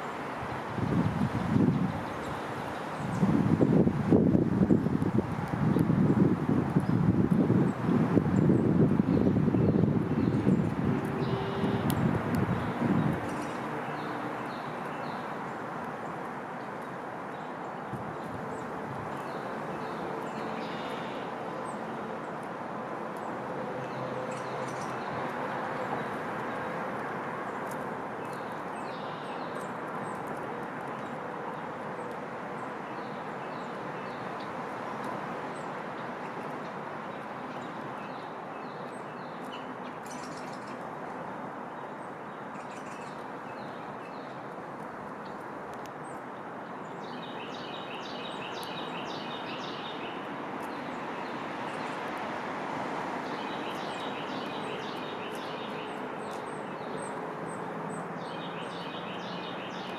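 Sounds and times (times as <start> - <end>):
small songbirds chirping: 4.6 - 22.5, 23.1 - 40.9, 41.7 - 52.2, 53.2 - 59.9.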